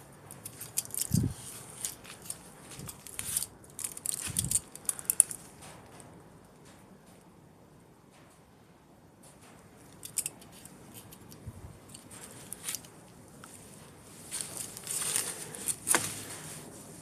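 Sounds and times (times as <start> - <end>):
handling clicks and rustling: 0.0 - 7.2, 9.2 - 17.0.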